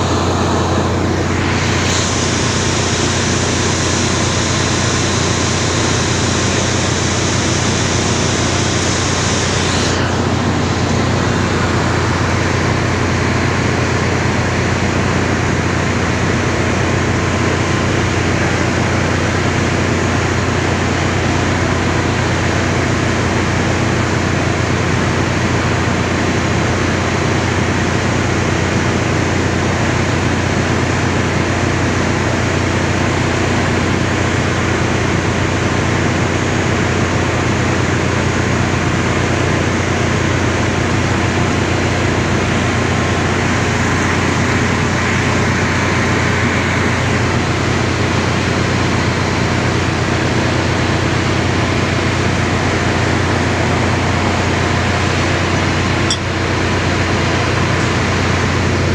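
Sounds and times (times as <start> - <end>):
engine-room machinery drone: 0.0 - 58.9.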